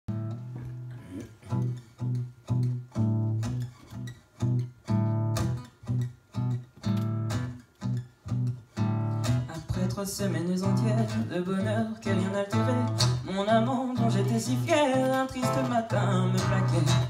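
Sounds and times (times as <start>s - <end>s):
acoustic guitar tango: 0.1s - 17.0s.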